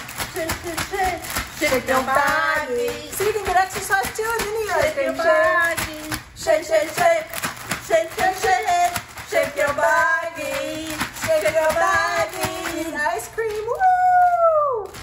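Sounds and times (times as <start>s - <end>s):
ice rattling in shaken bag: 0.0s - 15.0s
women singing: 0.0s - 15.0s.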